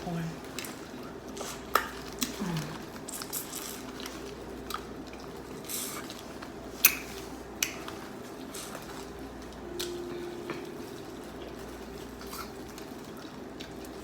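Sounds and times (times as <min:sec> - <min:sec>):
chewing corn on the cob: 0:00.4 - 0:09.7, 0:11.4 - 0:14.0.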